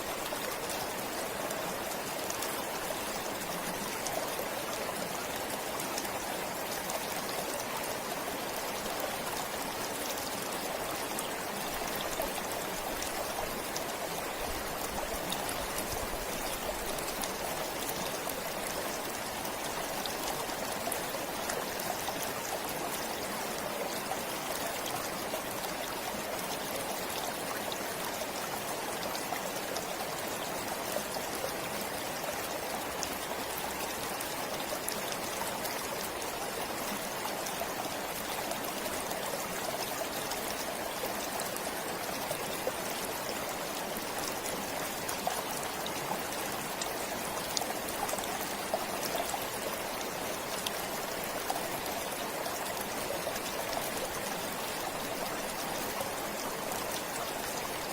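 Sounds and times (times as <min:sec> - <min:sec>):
stream water rushing: 0:00.0 - 0:57.9
water trickling and splashing: 0:00.0 - 0:57.9.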